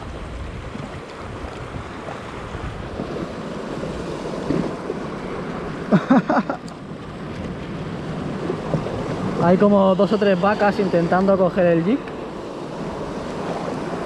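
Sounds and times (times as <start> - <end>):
wind buffeting microphone: 0.0 - 5.8, 6.7 - 14.0
sea waves washing: 0.0 - 14.0.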